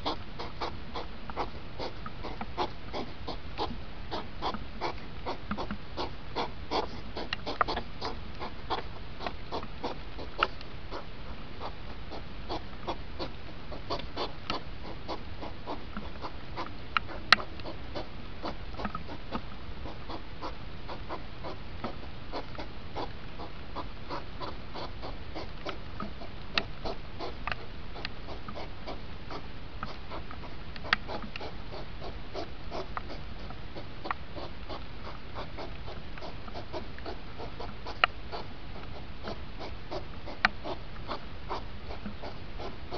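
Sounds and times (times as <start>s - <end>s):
hedgehogs huffing and snorting: 0.0s - 42.9s
steady hiss: 0.0s - 42.9s.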